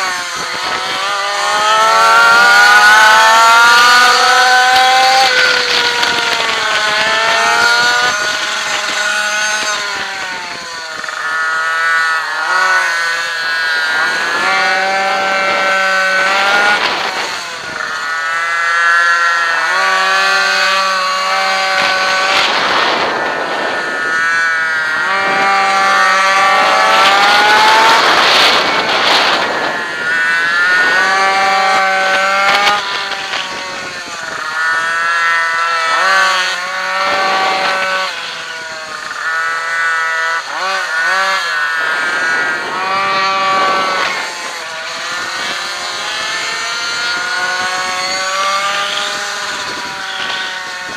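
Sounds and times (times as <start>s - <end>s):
two-stroke minibike engine revving: 0.0s - 50.9s.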